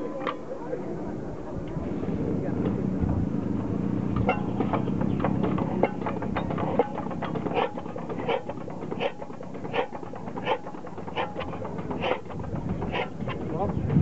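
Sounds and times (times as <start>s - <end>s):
old stationary engine chuffing: 2.1s - 14.0s.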